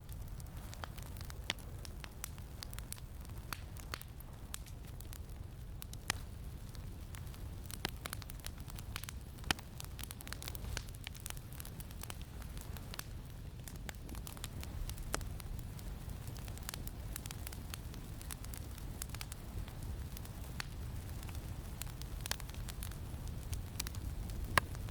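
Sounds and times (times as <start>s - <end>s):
campfire crackling and popping: 0.0s - 24.9s
low wind rumble: 0.0s - 24.9s.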